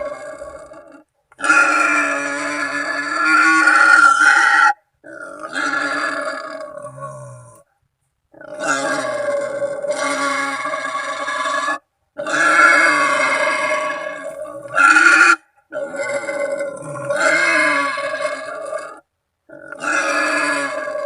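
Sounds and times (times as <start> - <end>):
wild boar squealing: 0.0 - 7.2, 8.4 - 21.0.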